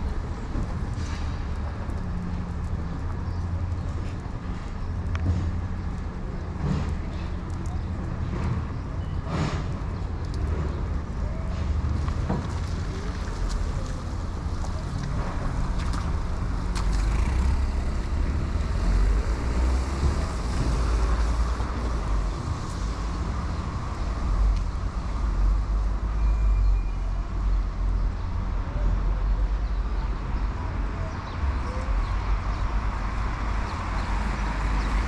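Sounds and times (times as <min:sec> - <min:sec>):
car engines: 0:00.0 - 0:35.0
low traffic rumble: 0:00.0 - 0:35.0.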